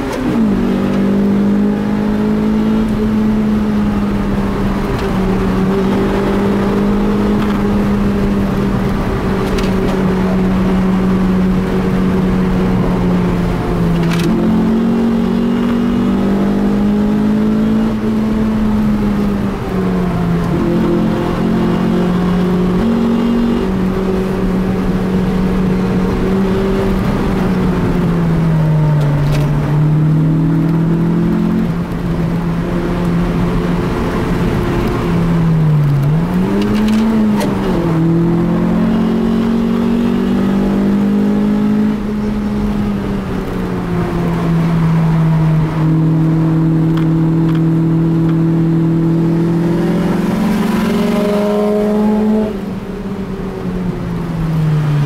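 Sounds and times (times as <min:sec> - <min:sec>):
car engine under load: 0:00.0 - 0:55.0.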